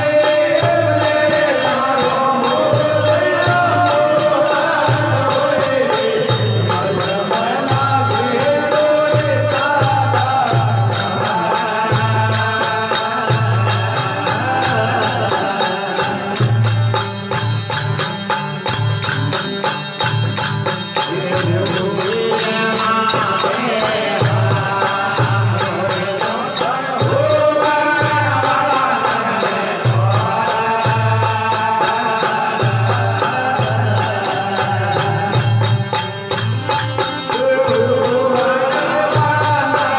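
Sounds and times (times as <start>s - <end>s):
small cymbals jingling: 0.0s - 39.9s.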